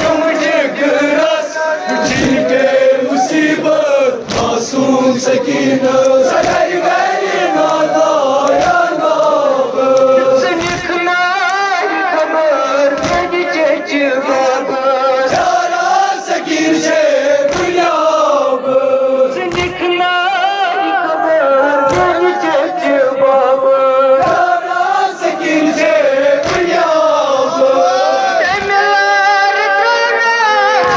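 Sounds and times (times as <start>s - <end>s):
men chanting a lament: 0.0s - 30.9s.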